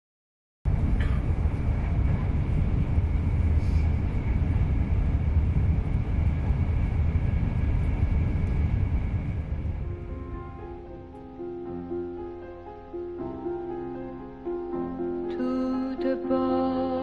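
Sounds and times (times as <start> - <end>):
low background rumble: 0.7 - 17.0.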